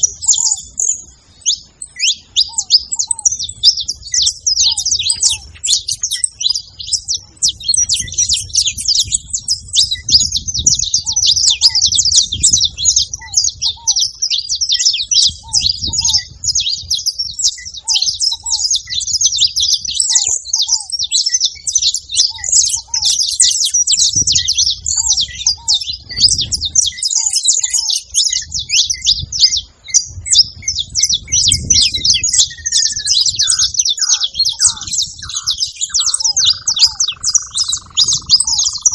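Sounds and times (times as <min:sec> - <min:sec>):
finches singing: 0:00.0 - 0:38.9.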